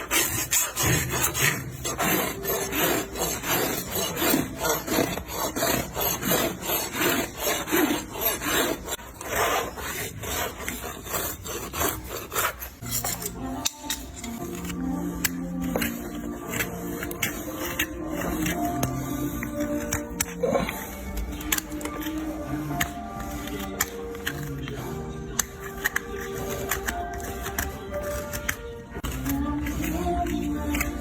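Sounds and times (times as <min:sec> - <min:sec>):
rasp filing a hoof: 0:00.0 - 0:31.0.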